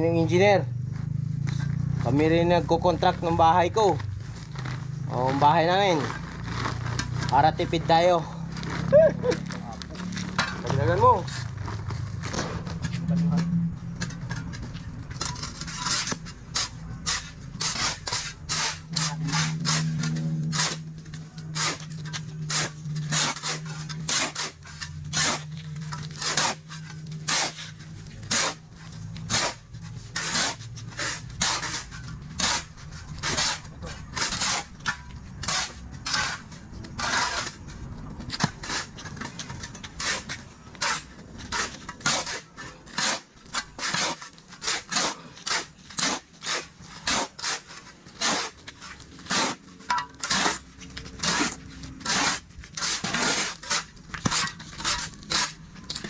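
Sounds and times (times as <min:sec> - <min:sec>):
shovels scraping on concrete: 0:00.0 - 0:56.0.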